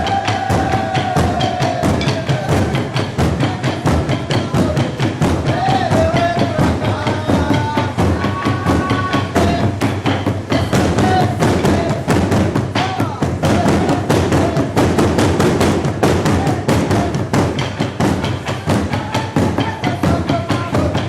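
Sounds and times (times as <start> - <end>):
large drums beaten with sticks: 0.0 - 21.0.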